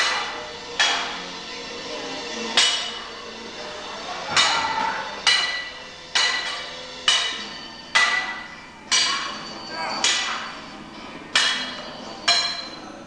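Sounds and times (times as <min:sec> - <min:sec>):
weapons clashing with ringing strikes: 0:00.0 - 0:01.3, 0:02.5 - 0:03.1, 0:04.3 - 0:12.9.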